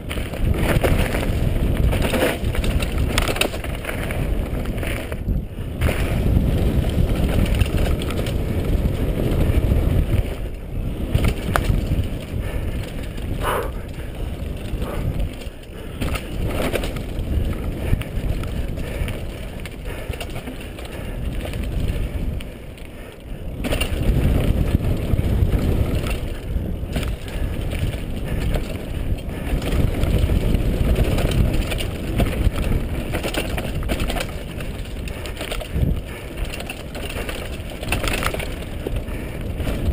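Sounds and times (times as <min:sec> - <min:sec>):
bike tyres rattling over dirt: 0:00.0 - 0:39.9
wind rush on microphone: 0:00.0 - 0:39.9.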